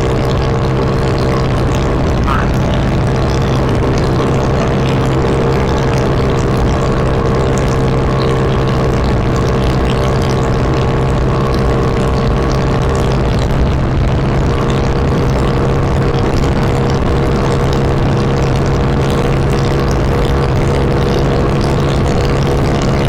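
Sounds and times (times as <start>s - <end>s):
motorcycle engine cruising: 0.0s - 23.0s
wind noise on microphone: 0.0s - 23.0s.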